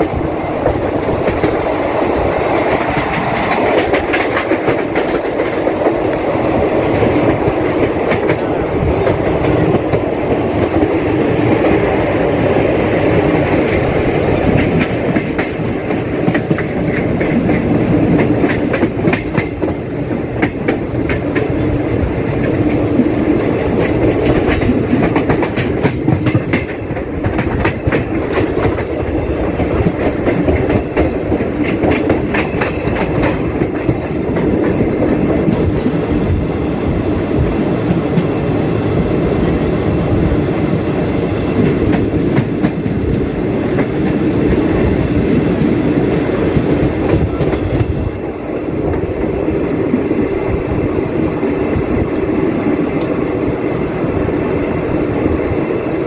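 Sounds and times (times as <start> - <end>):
clickety-clack over rail joints: 0.0 - 39.1, 40.7 - 56.0
train wheels rumbling on rails: 0.0 - 56.0.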